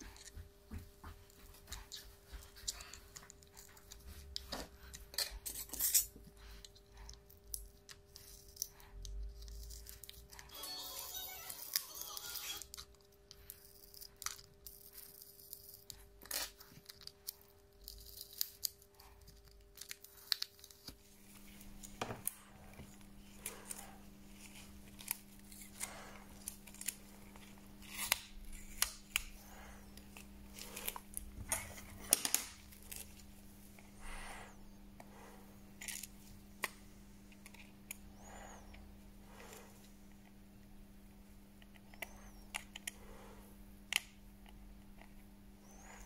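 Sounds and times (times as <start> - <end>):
steady electrical hum: 0.0 - 46.0.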